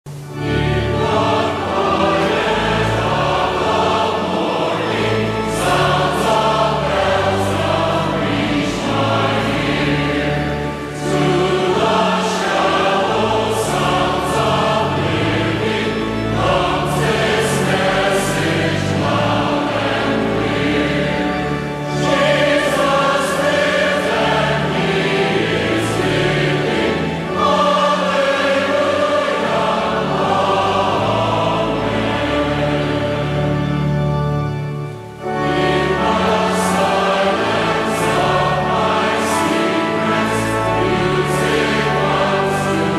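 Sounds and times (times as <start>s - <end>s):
choir singing a hymn: 0.1s - 42.9s.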